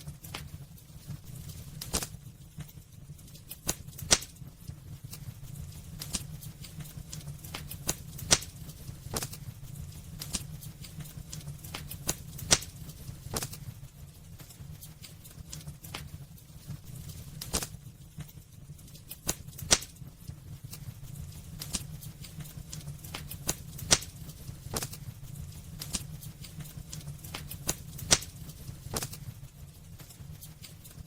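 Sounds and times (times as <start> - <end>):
low fire rumble: 0.0 - 31.0
wood fire crackling and popping: 0.0 - 31.0.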